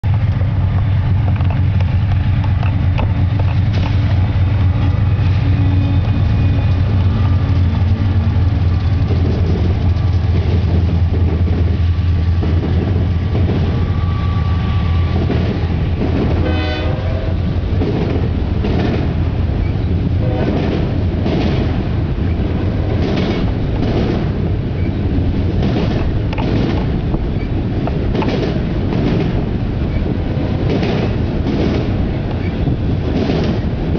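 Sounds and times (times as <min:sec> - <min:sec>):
diesel locomotive drone: 0:00.0 - 0:33.9
train wheels clickety-clack: 0:00.1 - 0:33.9.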